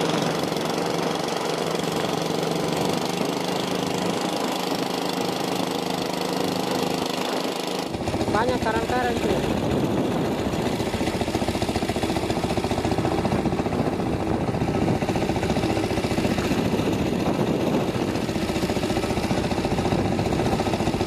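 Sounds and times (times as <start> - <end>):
small boat engine running: 0.0 - 21.0.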